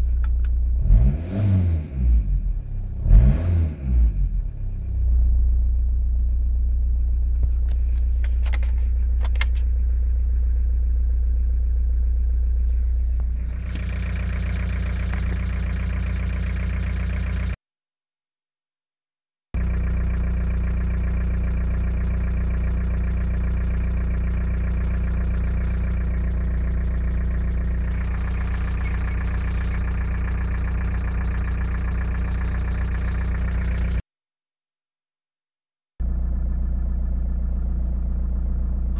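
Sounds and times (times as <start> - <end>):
diesel engine idling with ticking: 0.0 - 1.0, 4.2 - 17.6, 19.6 - 34.0, 36.0 - 38.9.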